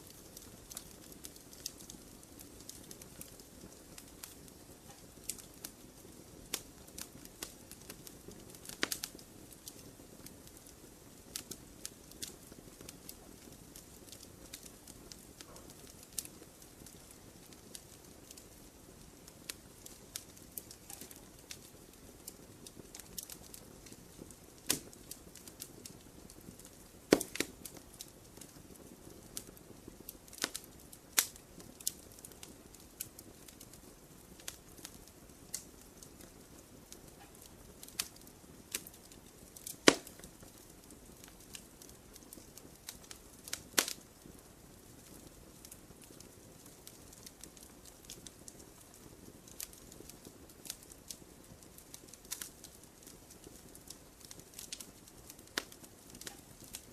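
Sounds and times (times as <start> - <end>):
soft steady hiss: 0.0 - 56.9
wood fire popping and snapping: 0.0 - 56.9.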